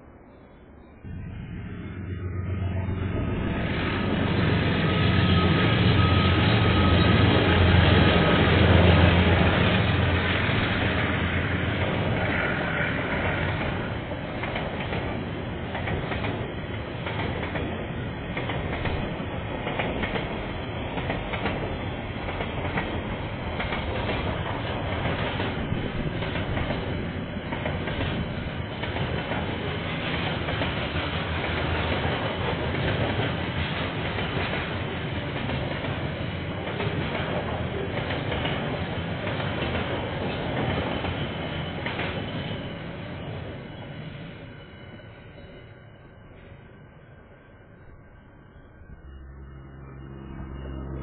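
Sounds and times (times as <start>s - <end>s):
diesel locomotive engine drone: 0.0s - 51.0s
freight wagons rumbling on track: 1.0s - 45.6s.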